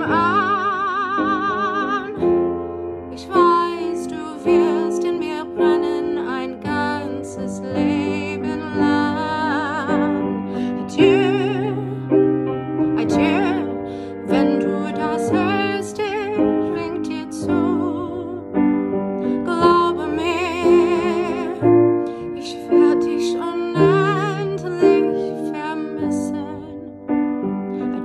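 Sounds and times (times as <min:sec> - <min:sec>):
woman singing with vibrato: 0:00.0 - 0:02.4, 0:03.1 - 0:12.2, 0:13.0 - 0:18.5, 0:19.3 - 0:26.9
piano accompaniment: 0:00.0 - 0:28.0.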